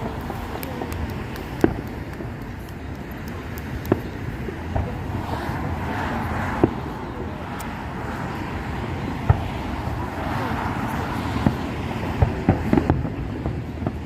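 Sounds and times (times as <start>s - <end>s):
distant firework bangs: 0.0s - 14.0s
outdoor traffic rumble: 0.0s - 14.0s.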